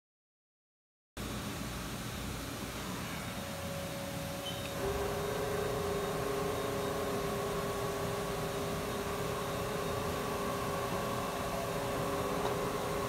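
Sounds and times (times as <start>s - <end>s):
machining center spindle whine: 2.1s - 13.0s.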